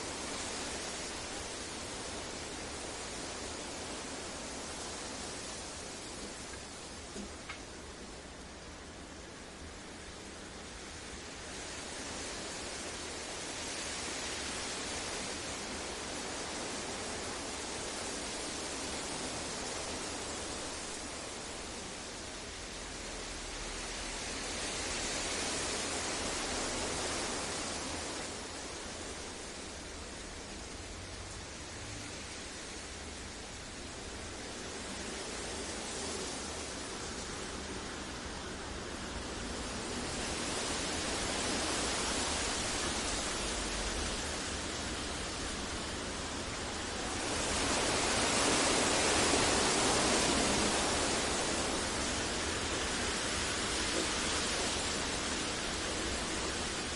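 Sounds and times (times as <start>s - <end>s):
steady masking noise hiss: 0.0s - 56.9s.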